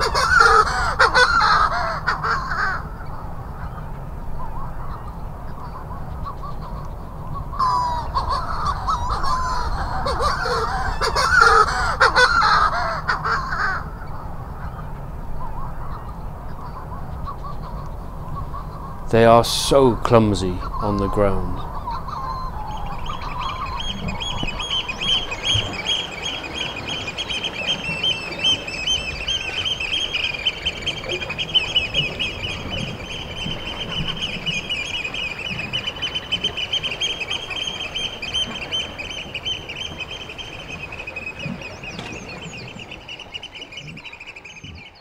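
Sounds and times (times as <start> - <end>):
seabirds cackling calls: 0.0 - 45.0.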